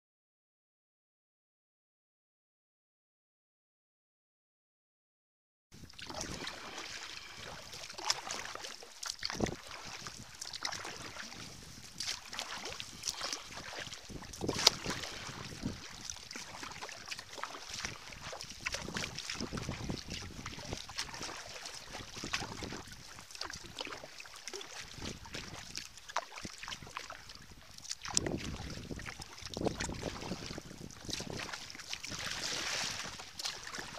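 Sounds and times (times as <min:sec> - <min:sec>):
hull swishing through water: 0:05.8 - 0:33.9
paddle splashing in water: 0:05.8 - 0:33.9.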